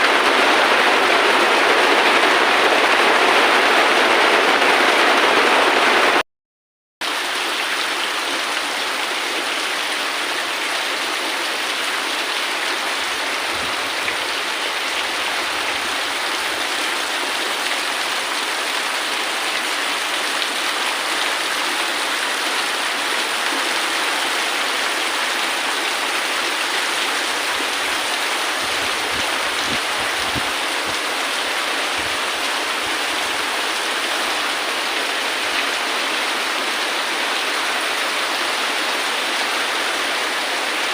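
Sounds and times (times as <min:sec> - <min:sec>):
heavy rain: 0:00.0 - 0:06.2, 0:07.0 - 0:40.9.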